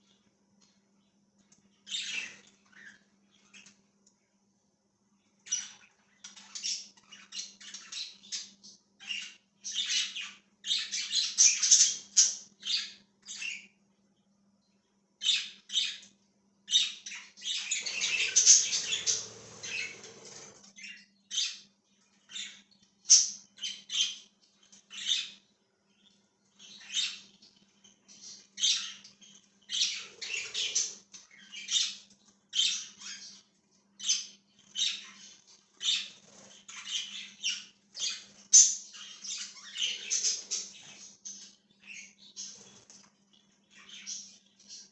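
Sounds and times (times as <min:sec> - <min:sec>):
budgerigars chirping and chattering: 0:01.8 - 0:03.8, 0:05.4 - 0:13.8, 0:15.2 - 0:44.9.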